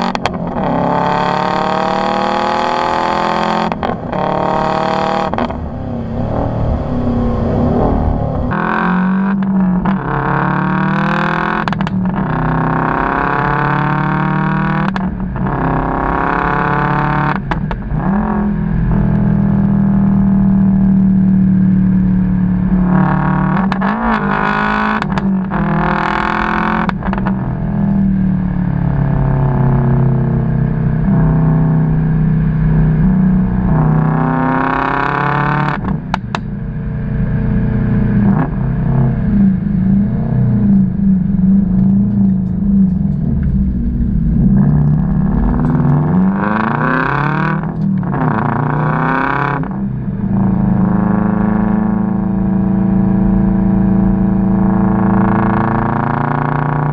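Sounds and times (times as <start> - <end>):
car engine revving: 0.0 - 56.9.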